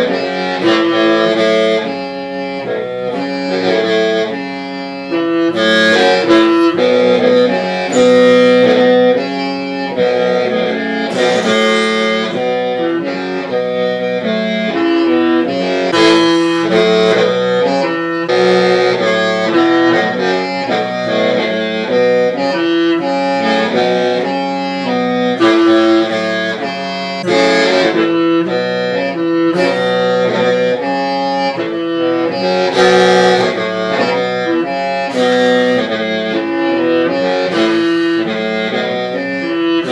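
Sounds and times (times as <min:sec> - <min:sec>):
mouth organ chords over drone: 0:00.0 - 0:39.9.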